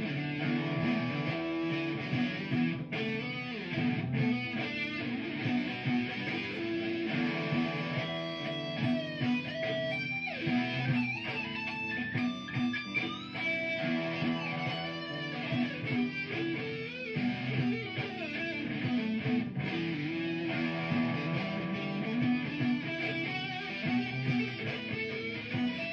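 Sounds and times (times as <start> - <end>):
electric guitar lead line: 0.0 - 25.9
looped guitar backing: 0.0 - 25.9.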